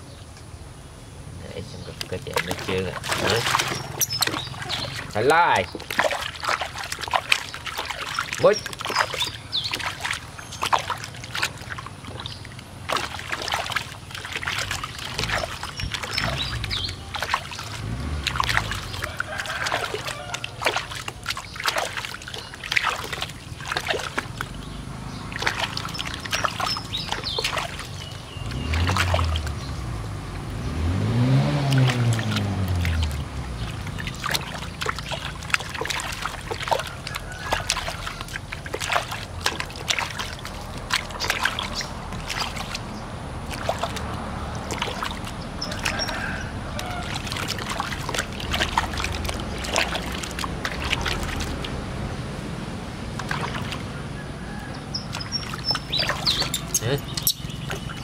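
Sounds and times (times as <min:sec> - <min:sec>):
water splashing in plastic basin: 0:01.8 - 0:58.0.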